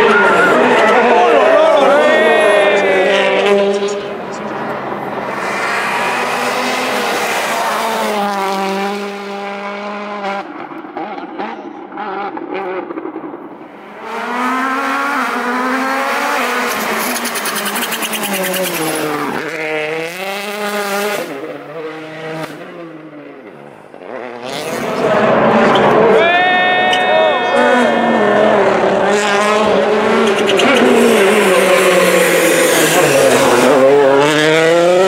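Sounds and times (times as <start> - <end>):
rally car engines at full throttle: 0.0 - 35.0.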